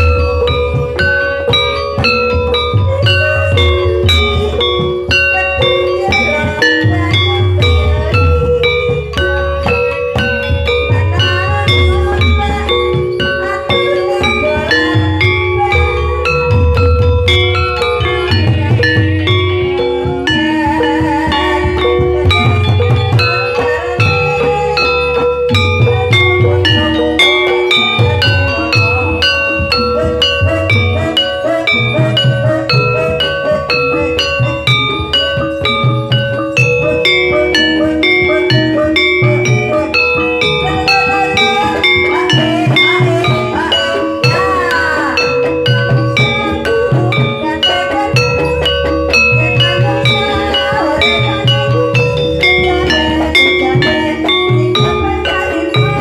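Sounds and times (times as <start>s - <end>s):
hand drum beats: 0.0s - 56.0s
metallophones struck in ringing runs: 0.0s - 56.0s
tuned mallet percussion: 0.0s - 56.0s.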